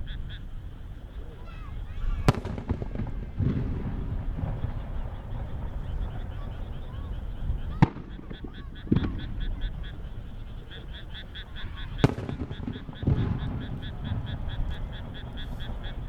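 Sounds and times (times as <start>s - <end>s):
deep firework booms: 0.0s - 16.0s
firework cracks: 0.0s - 16.0s
rapid chirping: 0.0s - 16.0s.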